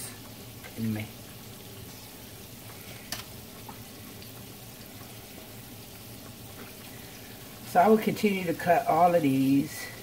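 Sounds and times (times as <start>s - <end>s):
chicken frying in oil: 0.0s - 10.0s.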